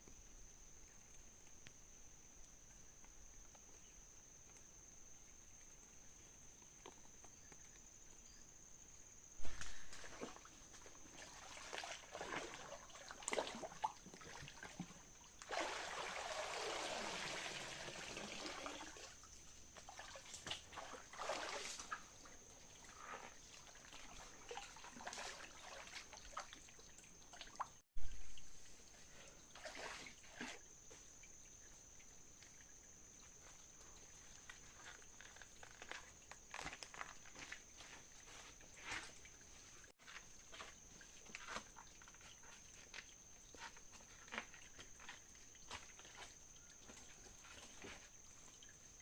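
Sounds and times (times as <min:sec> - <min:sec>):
water pouring and sloshing: 0:09.4 - 0:49.0
water splashing and trickling: 0:09.4 - 0:49.0.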